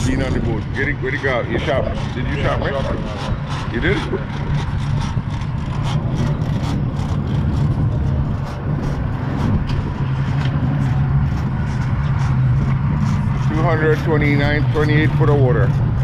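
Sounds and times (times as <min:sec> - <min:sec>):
outboard engines droning: 0:00.0 - 0:16.0.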